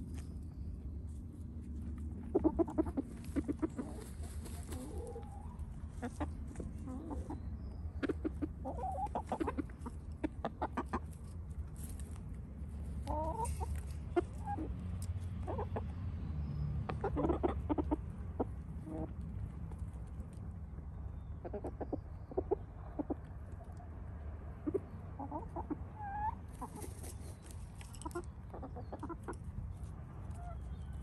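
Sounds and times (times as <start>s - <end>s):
hens clucking: 0.0s - 31.0s.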